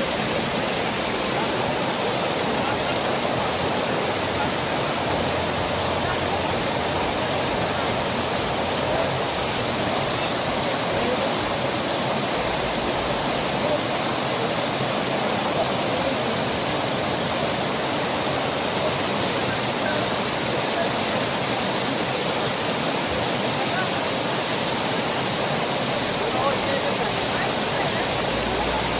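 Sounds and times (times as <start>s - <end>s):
waterfall rushing over rocks: 0.0s - 28.9s.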